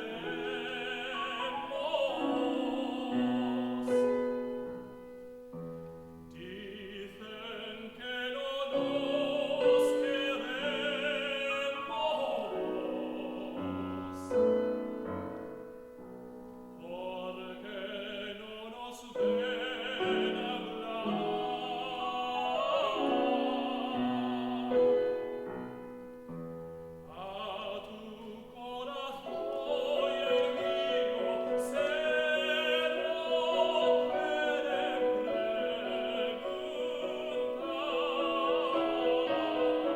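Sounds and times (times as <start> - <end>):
operatic tenor singing: 0.0 - 4.8, 6.3 - 15.4, 16.8 - 25.7, 27.1 - 39.9
piano accompaniment: 0.0 - 39.9.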